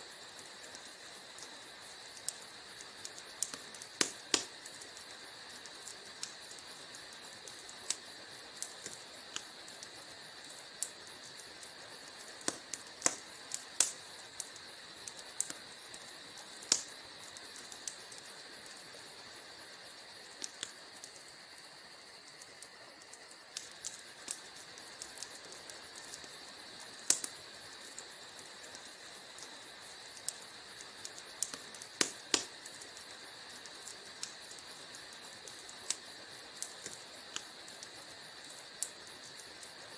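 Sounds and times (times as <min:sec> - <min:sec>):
faint hiss: 0:00.0 - 0:39.9
wood fire crackling: 0:00.0 - 0:39.9.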